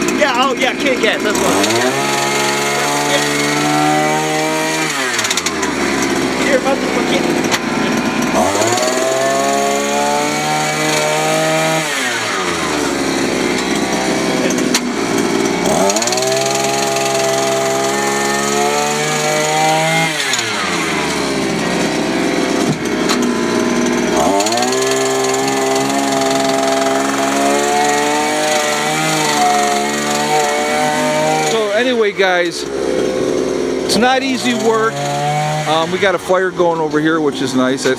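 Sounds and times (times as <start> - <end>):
jackhammer motor winding down and up: 0.0 - 37.9
jackhammer running: 0.0 - 37.9.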